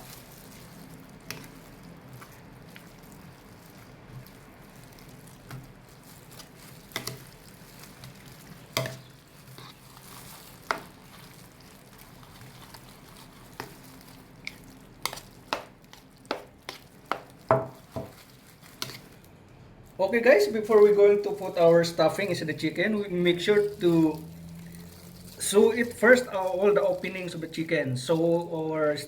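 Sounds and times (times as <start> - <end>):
wet stirring of meat mixture: 0.0 - 29.0.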